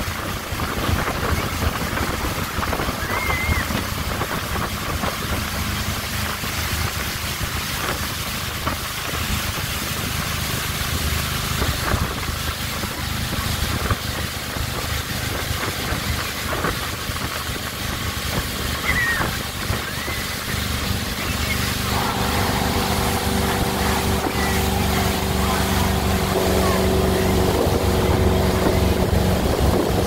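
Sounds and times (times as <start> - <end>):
motorboat engine drone: 0.0 - 30.0
water rushing in wake: 0.0 - 30.0.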